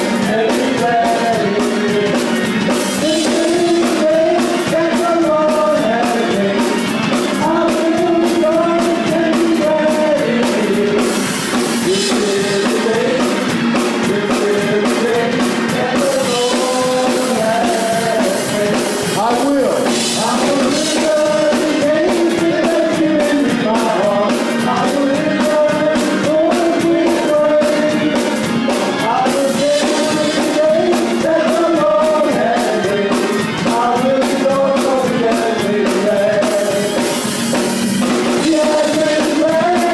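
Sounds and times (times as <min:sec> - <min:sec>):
band with drums and cymbals: 0:00.0 - 0:39.9
voices singing: 0:00.0 - 0:39.9.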